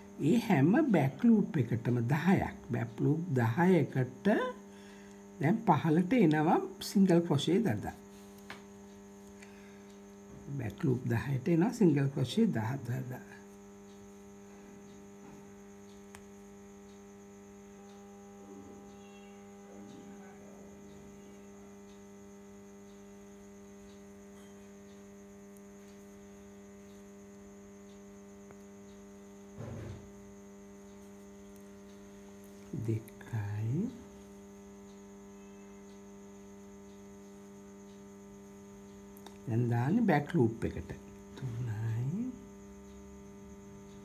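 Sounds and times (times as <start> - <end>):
electrical mains hum: 0.0 - 44.0.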